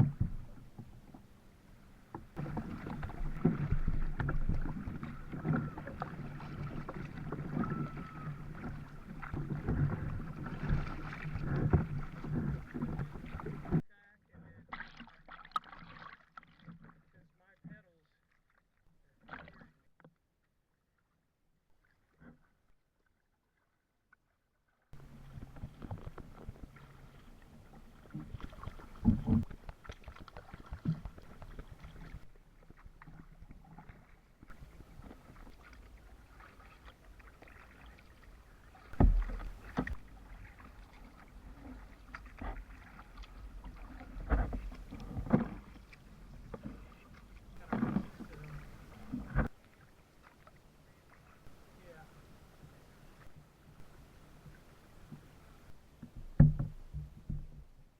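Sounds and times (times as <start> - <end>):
kayak paddle strokes: 0.0 - 19.9, 25.0 - 57.9
water noise: 0.0 - 19.9, 24.9 - 57.9.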